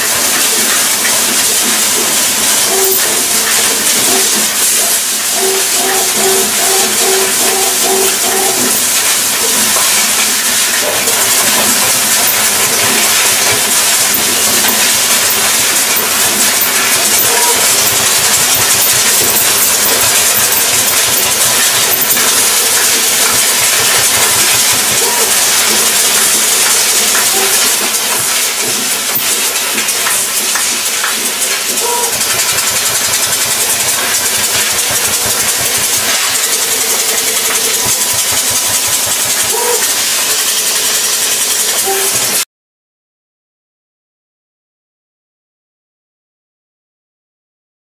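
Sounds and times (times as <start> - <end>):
laser cutter hissing: 0.0 - 42.4.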